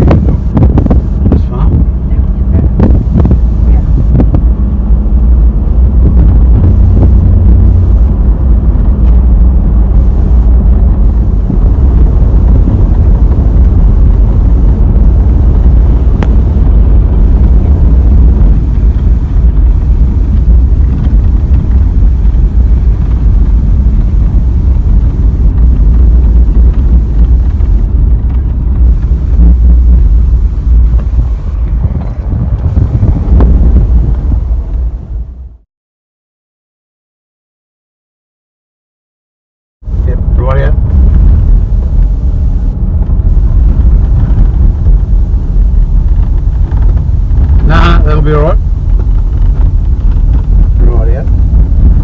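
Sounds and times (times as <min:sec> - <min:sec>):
wind buffeting microphone: 0:00.0 - 0:35.6, 0:39.8 - 0:52.0
vehicle rumble: 0:00.0 - 0:35.7, 0:39.8 - 0:52.0.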